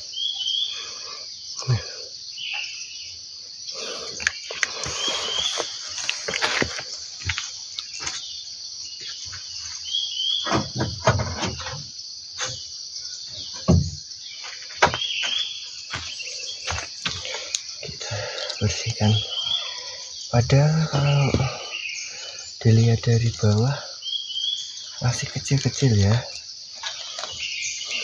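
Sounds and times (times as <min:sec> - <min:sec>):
crickets chorus: 0:00.0 - 0:28.0.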